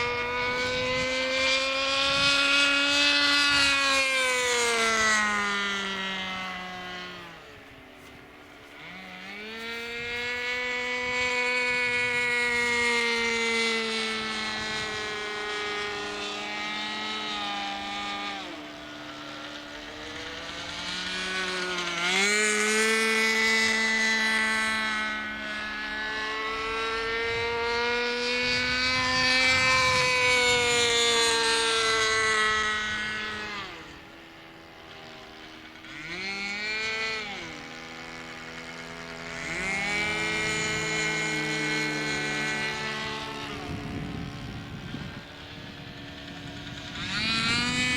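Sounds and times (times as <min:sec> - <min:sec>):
model plane engine buzzing: 0:00.0 - 0:47.9.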